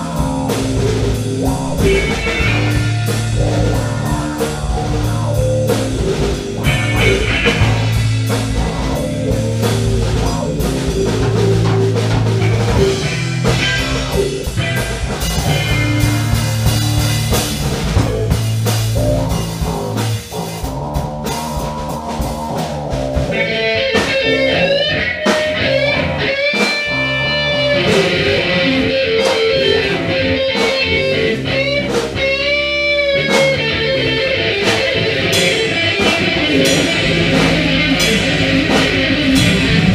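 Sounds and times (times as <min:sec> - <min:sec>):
blues-rock band jamming: 0:00.0 - 0:39.9
lead guitar bent notes: 0:00.0 - 0:39.9.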